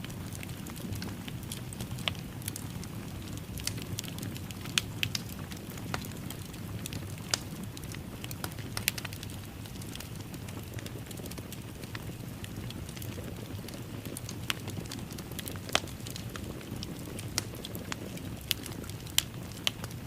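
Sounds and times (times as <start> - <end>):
fire pops and snaps: 0.0 - 20.0
fireplace fire crackling: 0.0 - 20.0.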